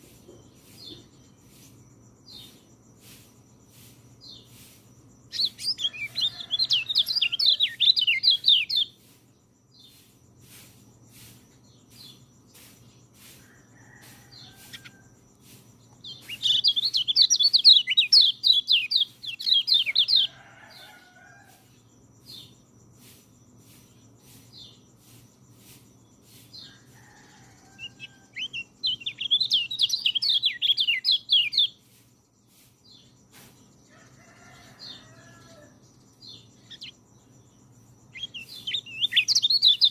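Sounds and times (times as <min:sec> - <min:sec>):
faint bird chirps: 0:00.0 - 0:39.9
songbird chattering song: 0:00.0 - 0:39.9.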